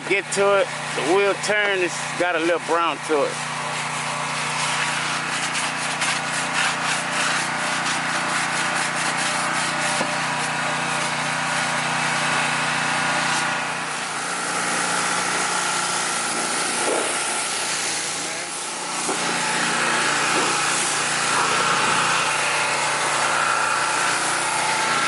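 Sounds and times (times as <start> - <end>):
constant machine hum: 0.0 - 25.0
scrubbing a tyre and wheel: 0.8 - 25.0.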